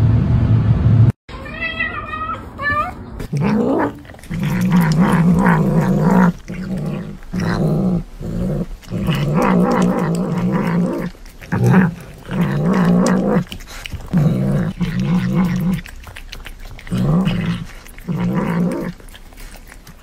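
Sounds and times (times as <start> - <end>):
cat growling: 3.2 - 20.0.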